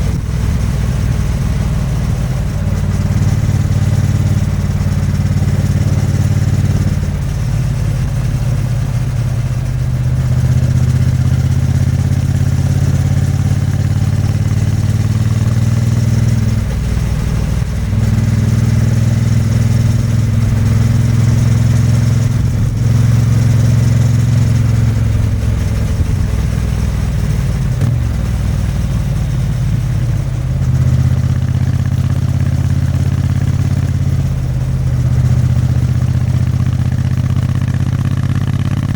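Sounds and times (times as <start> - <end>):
motorcycle engine exhaust: 0.0 - 38.9.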